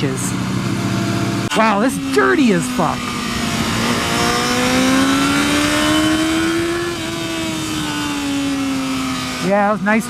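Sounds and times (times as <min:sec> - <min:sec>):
motorcycle engine under throttle: 0:00.0 - 0:10.0
riding wind rushing: 0:00.7 - 0:09.4.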